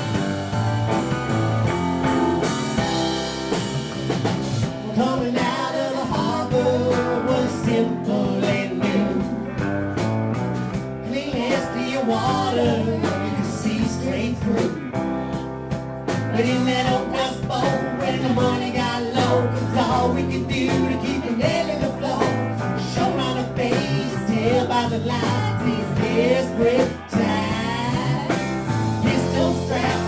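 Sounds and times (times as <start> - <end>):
drum kit beat: 0.0 - 30.0
electric guitar: 0.0 - 30.0
rock music: 0.0 - 30.0.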